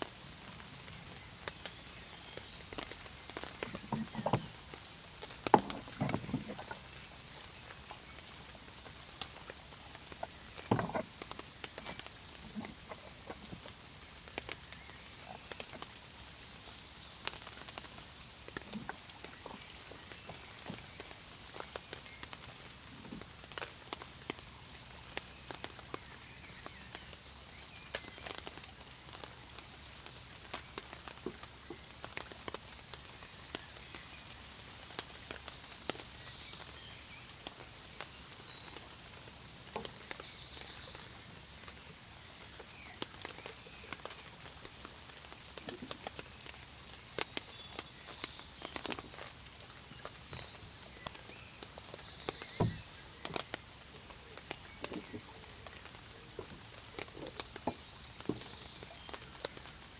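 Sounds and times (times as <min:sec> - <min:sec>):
raindrops tapping: 0:00.0 - 0:59.9
steady rain hiss: 0:00.0 - 0:59.9.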